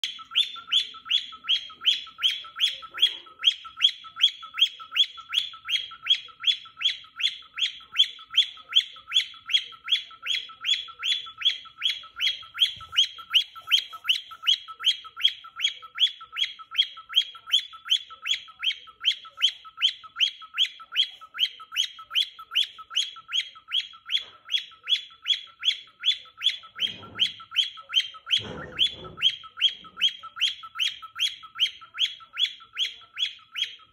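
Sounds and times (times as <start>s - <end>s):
cockatiel chirping: 0.0s - 33.9s.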